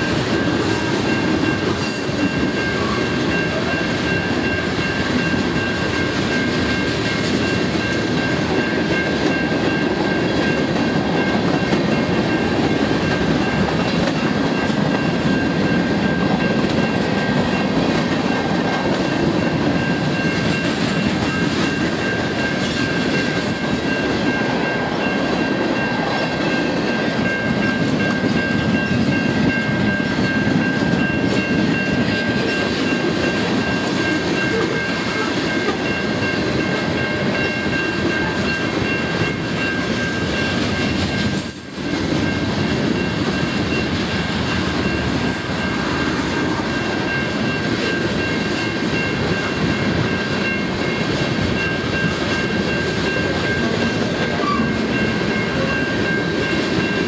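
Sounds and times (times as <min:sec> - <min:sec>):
freight train wheels rumbling on rail: 0:00.0 - 0:57.0
high ringing tone: 0:00.0 - 0:57.0.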